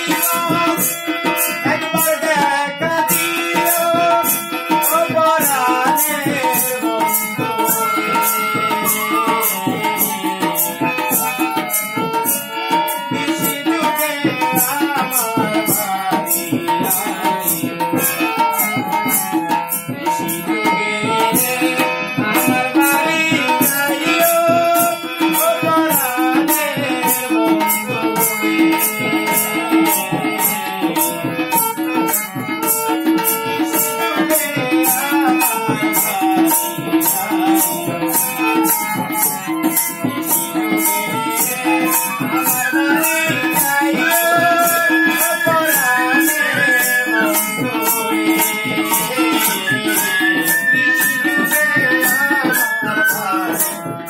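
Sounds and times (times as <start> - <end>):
harmonium reed chords: 0.0 - 54.0
man singing: 0.0 - 54.0
tabla: 0.0 - 54.0.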